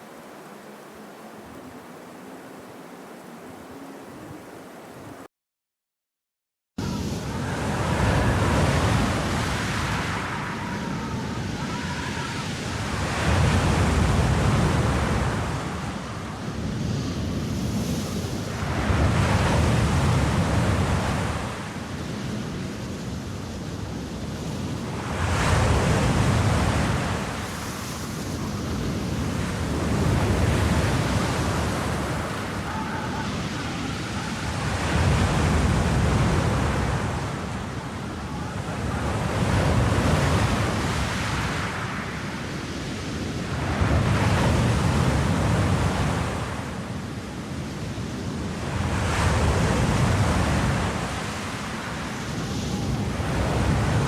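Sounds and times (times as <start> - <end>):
wind rushing in gusts: 0.0 - 5.3, 6.8 - 54.0.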